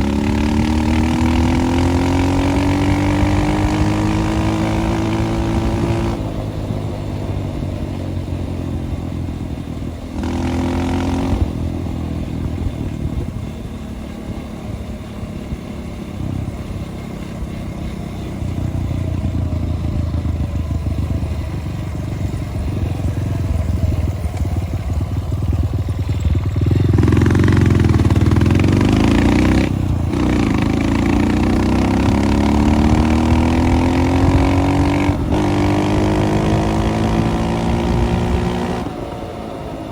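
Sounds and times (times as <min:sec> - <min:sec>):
dirt bike engine revving: 0:00.0 - 0:09.0, 0:09.9 - 0:13.3, 0:14.3 - 0:39.1.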